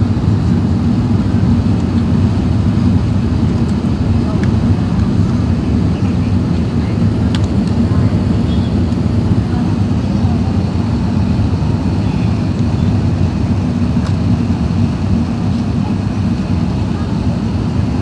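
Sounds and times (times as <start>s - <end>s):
airplane cabin roar: 0.0s - 18.0s.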